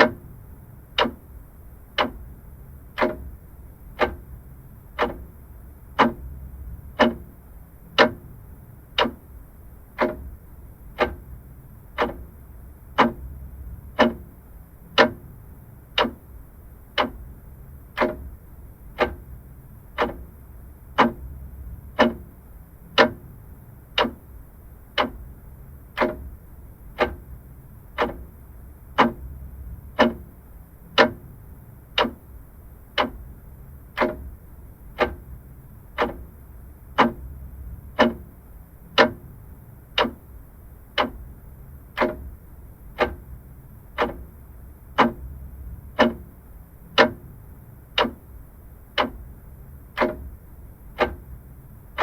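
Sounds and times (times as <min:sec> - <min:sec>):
faint low rumble: 0:00.0 - 0:52.0
mechanical clock ticking: 0:00.0 - 0:52.0.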